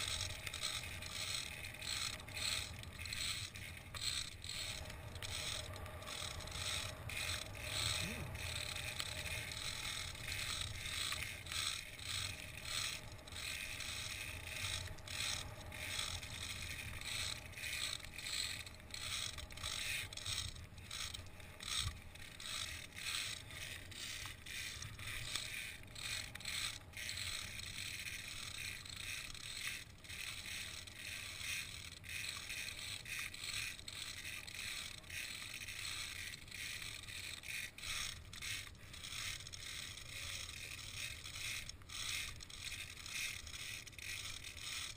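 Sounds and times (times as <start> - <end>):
carabiners scraping on steel cable: 0.0 - 44.9.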